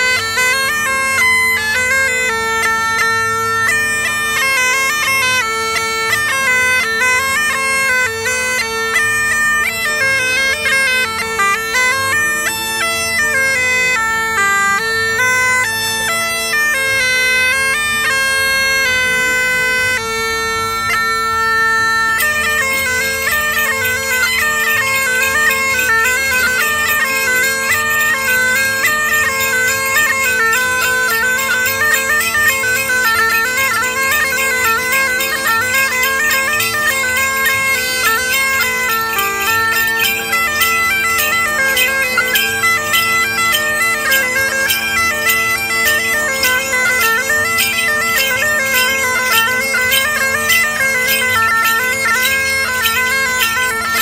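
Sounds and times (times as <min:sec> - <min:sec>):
bagpipe playing a tune: 0:00.0 - 0:54.0.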